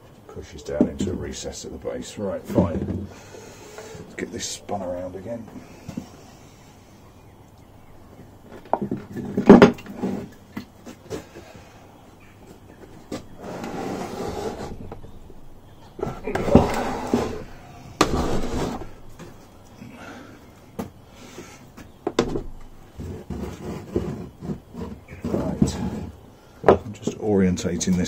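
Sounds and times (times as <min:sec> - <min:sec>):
engine parts clunking and scraping: 0:00.0 - 0:06.9, 0:07.8 - 0:28.0.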